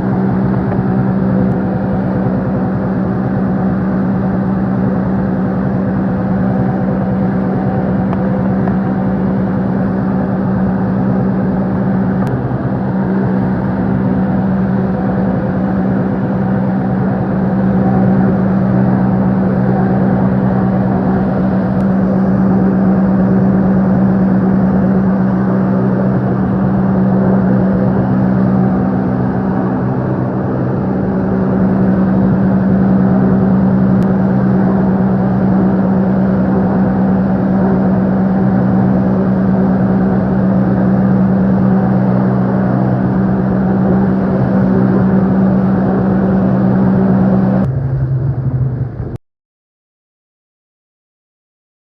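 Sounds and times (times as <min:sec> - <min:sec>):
motorboat engine running: 0:00.0 - 0:49.2.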